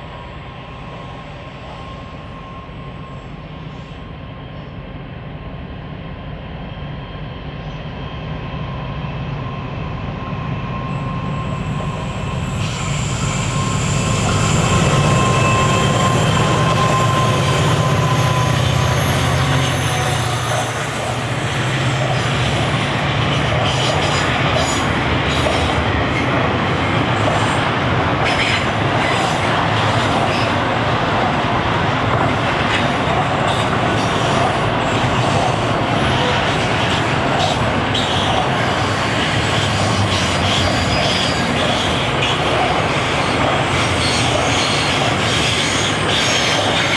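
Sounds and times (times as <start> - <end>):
train wheel squeal: 0.0 - 5.0, 6.1 - 31.1, 32.3 - 46.9
locomotive engine drone: 0.0 - 46.9.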